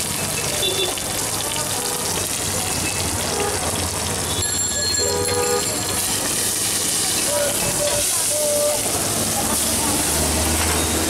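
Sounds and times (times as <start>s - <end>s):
chicken sizzling on griddle: 0.0s - 11.0s
street noise: 0.0s - 11.0s.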